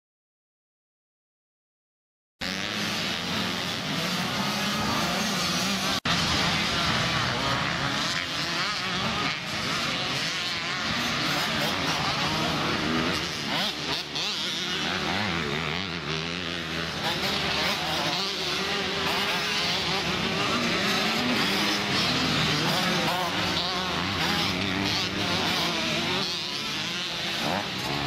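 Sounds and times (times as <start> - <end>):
motocross bikes revving: 2.4 - 28.0.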